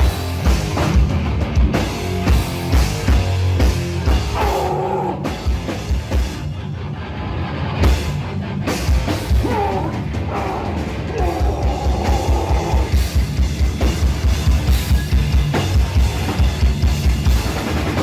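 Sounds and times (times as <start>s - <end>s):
hardcore band playing loud: 0.0s - 18.0s.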